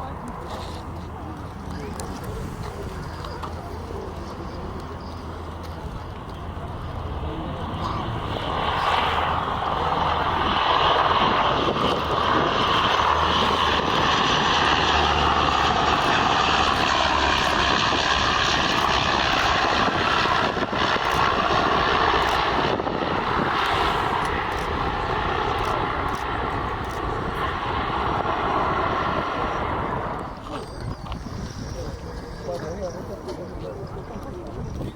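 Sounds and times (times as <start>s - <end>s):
airliner engines roaring: 0.0s - 34.9s.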